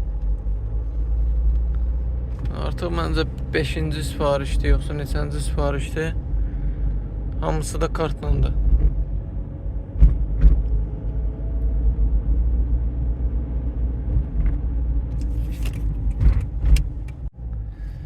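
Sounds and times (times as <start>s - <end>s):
car driving low rumble: 0.0s - 18.0s.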